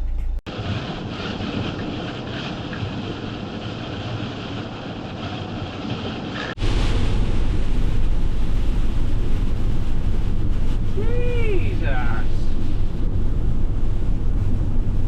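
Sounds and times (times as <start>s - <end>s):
deep rumble: 0.0s - 15.0s
van road and engine noise: 0.0s - 15.0s.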